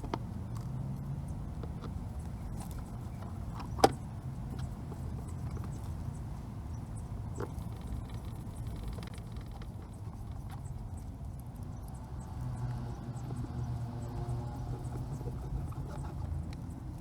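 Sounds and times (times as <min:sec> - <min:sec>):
scooter engine idling: 0:00.0 - 0:17.0.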